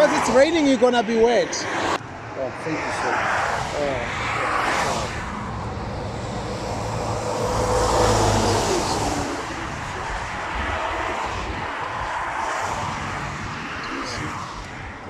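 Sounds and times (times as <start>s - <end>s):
traffic on wet road: 0.0s - 15.0s
vehicle passing with low hum: 0.0s - 15.0s.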